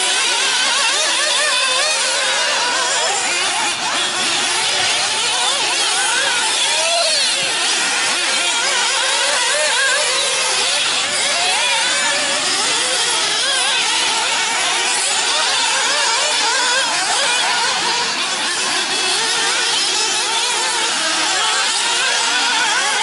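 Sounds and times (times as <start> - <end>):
rc car engines whining: 0.0 - 23.0.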